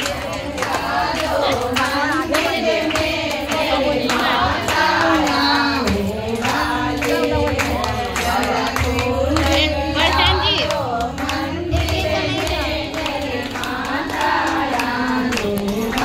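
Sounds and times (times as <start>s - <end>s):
group clapping in time: 0.0s - 16.0s
woman singing devotional song: 0.0s - 16.0s.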